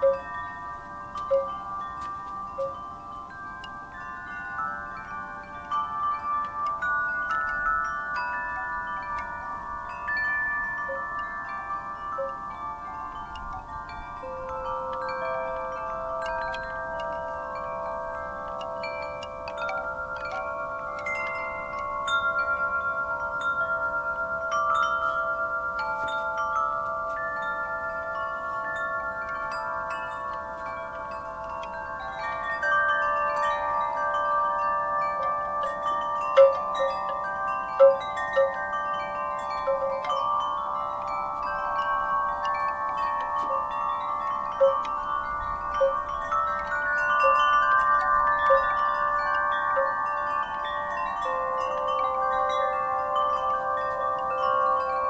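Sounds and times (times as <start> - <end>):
metal wind chimes ringing: 0.0 - 55.0.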